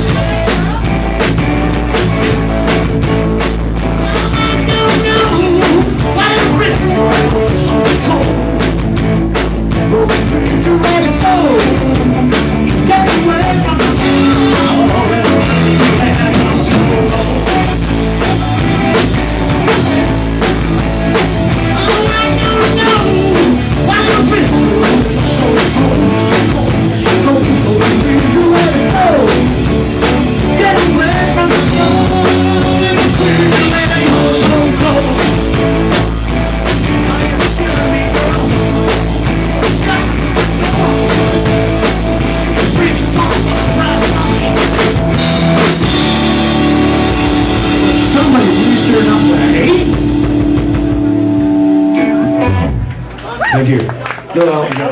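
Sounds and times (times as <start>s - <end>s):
drum kit: 0.0s - 53.2s
live rock band playing: 0.0s - 54.3s
guitar: 0.0s - 54.9s.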